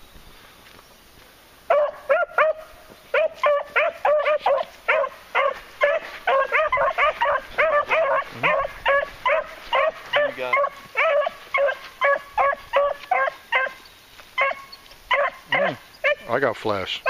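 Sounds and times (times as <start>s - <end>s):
hounds barking: 1.7s - 16.4s.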